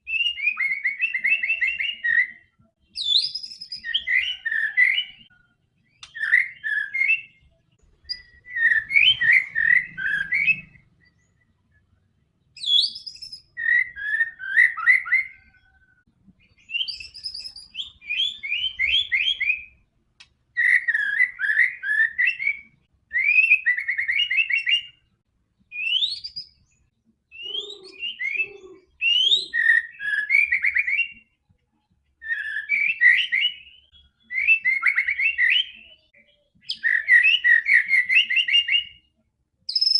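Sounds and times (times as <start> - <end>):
songbird whistling and chattering: 0.0 - 11.7, 12.5 - 19.9, 20.5 - 31.4, 32.2 - 39.9.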